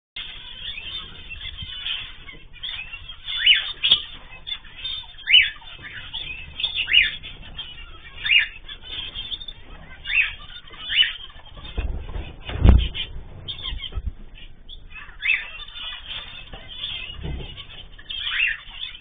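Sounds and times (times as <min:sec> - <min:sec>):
cage birds chirping and twittering: 0:00.2 - 0:19.0.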